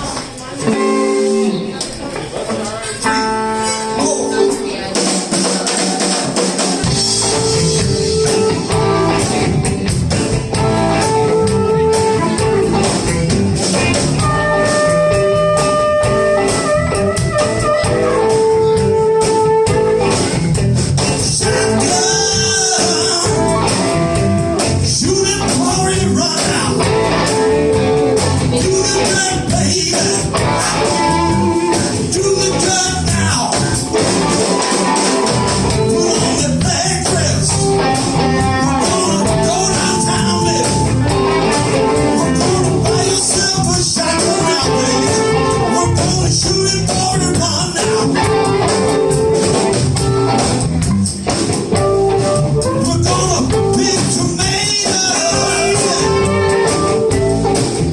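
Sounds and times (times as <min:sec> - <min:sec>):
held lead guitar notes: 0:00.0 - 0:57.9
live blues band playing: 0:00.0 - 0:57.9
bass and drums: 0:04.0 - 0:57.9.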